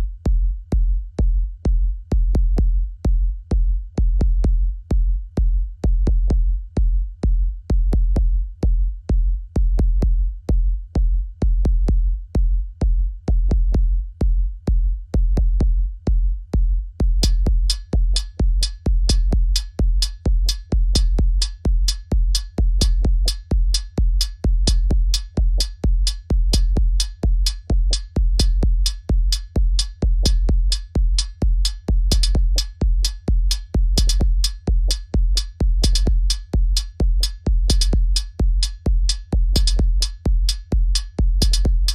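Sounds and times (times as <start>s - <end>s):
drum machine kick: 0.0s - 41.9s.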